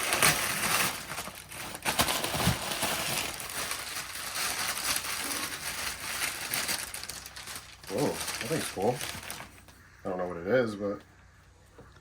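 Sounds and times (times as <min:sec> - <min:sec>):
rustling and crinkling packaging: 0:00.0 - 0:09.8.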